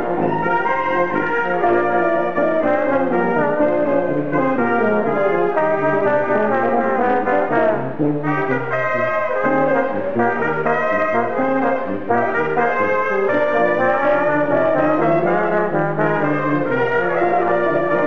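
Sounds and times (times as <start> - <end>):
brass dance music: 0.0 - 18.0.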